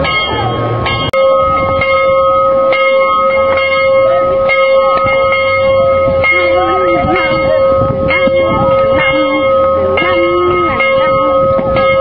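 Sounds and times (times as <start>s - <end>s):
church bell ringing: 0.0s - 12.0s.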